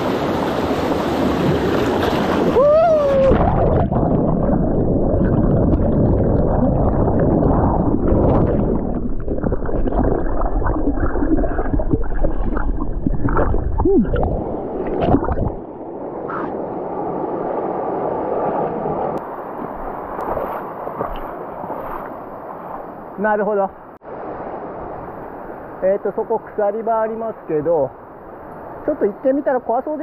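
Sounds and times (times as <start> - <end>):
stream water rushing and gurgling: 0.0 - 30.0.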